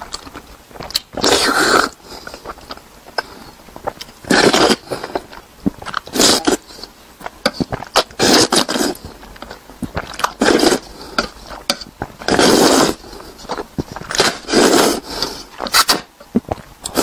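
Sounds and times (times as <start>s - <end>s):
person slurping noodles: 1.2s - 6.9s, 7.5s - 9.2s, 10.0s - 17.0s.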